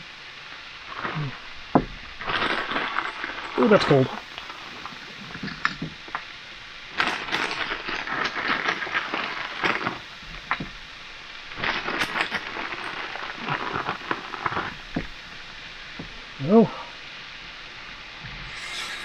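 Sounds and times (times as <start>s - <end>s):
food crackling in hot skillet: 0.1s - 19.0s.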